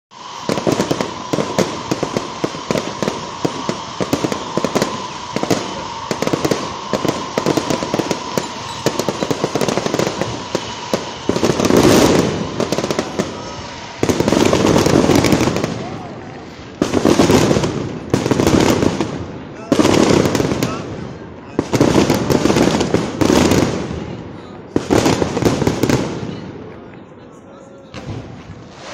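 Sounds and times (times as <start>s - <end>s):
fireworks bangs and crackles: 0.1s - 28.9s.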